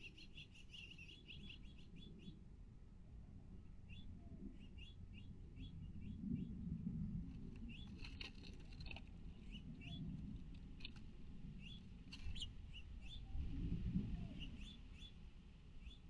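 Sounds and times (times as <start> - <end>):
songbirds chirping: 0.0 - 2.7, 3.5 - 6.7, 7.3 - 16.0.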